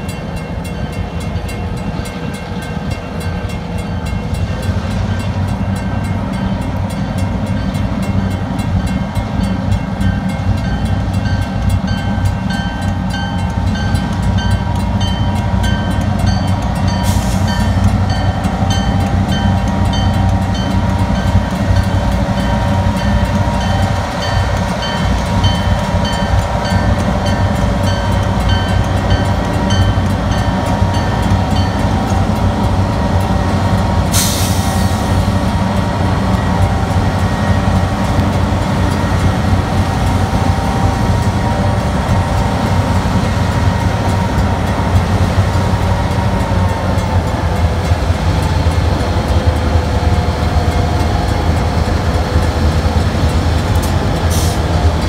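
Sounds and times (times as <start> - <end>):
diesel locomotive rumbling: 0.0 - 55.0
railroad crossing bells ringing: 0.0 - 55.0.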